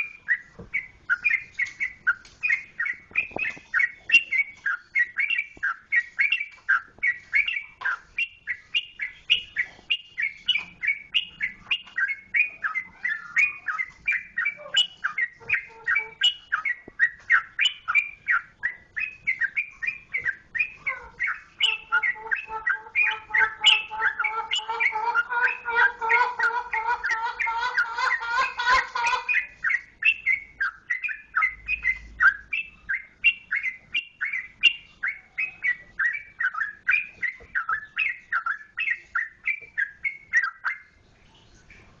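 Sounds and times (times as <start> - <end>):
bird singing fast whistled notes: 0.0 - 25.8, 29.3 - 41.0.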